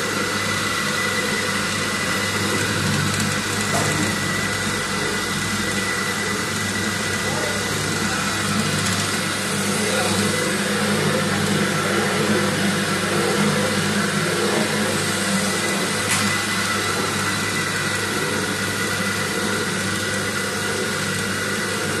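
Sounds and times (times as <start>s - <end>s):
mixer machine hum and whine: 0.0s - 22.0s.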